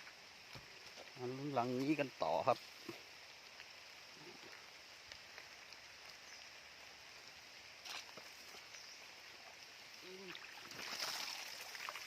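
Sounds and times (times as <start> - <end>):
light rain patter: 0.0 - 12.0.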